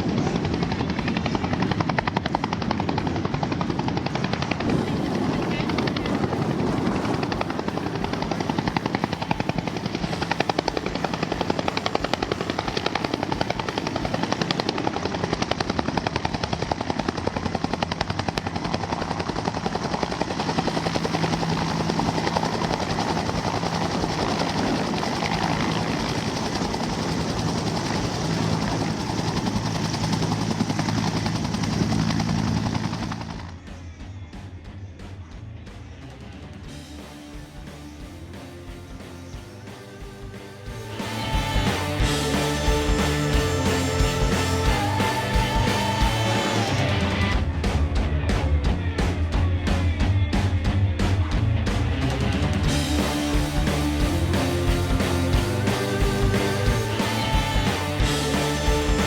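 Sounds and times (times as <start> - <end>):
helicopter rotor beating: 0.0 - 34.1, 36.6 - 59.0.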